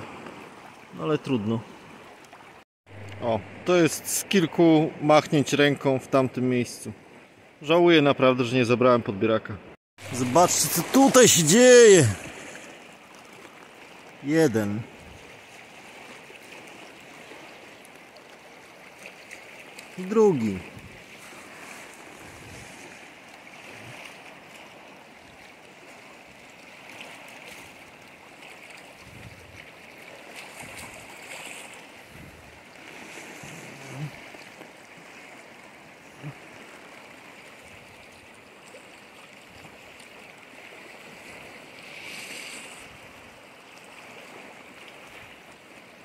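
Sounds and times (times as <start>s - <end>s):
moving water: 0.0s - 46.0s.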